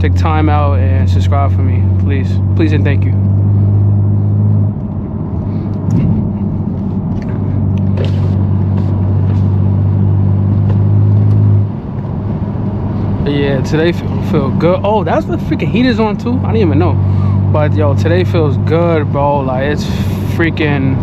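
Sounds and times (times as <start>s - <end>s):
car exhaust droning: 0.0s - 21.0s.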